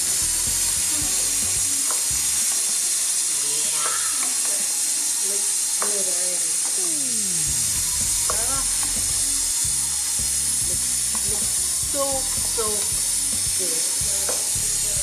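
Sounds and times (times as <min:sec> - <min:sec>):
background music: 0:00.0 - 0:15.0
stew sizzling in a pot: 0:00.0 - 0:15.0.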